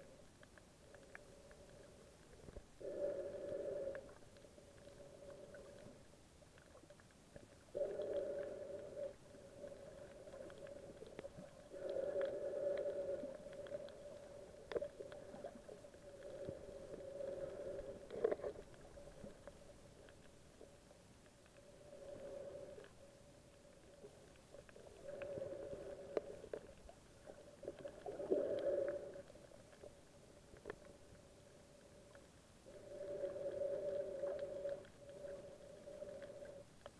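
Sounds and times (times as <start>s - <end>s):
faint clicks: 0.0s - 36.9s
underwater hum: 0.0s - 36.9s.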